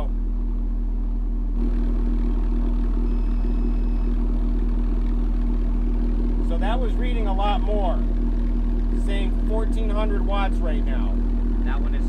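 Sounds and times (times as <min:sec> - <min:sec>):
subwoofer bass tone: 0:00.0 - 0:12.0.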